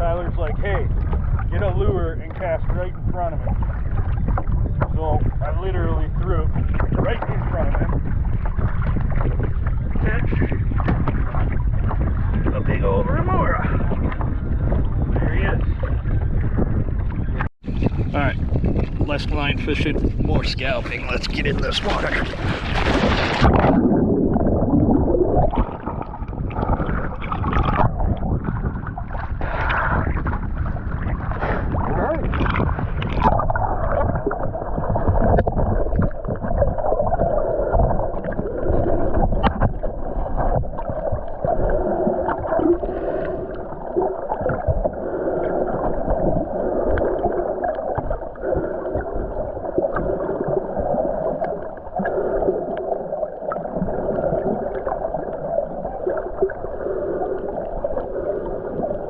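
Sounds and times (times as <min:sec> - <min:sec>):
underwater gurgling and splashing: 0:00.0 - 0:59.0.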